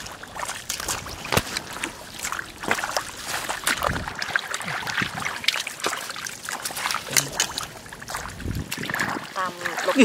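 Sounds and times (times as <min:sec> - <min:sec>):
muddy water splashing: 0:00.0 - 0:10.0.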